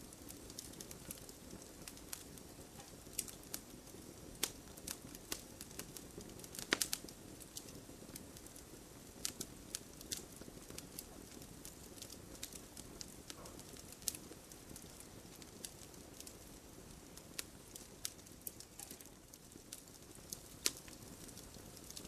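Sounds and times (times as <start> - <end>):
fire crackling: 0.0 - 22.0
sharp snaps and pops: 0.1 - 22.0.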